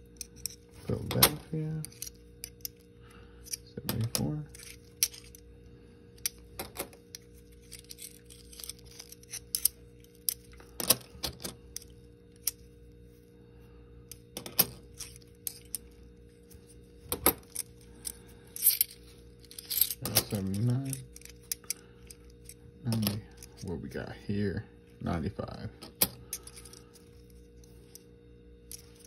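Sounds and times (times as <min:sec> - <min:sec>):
coins clicking and clinking: 0:00.1 - 0:05.4, 0:06.2 - 0:12.7, 0:14.1 - 0:23.6, 0:25.8 - 0:28.0, 0:28.6 - 0:29.0.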